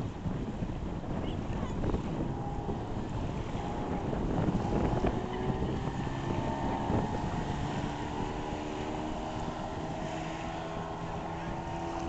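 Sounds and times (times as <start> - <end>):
outboard motor running at speed: 0.0 - 12.0.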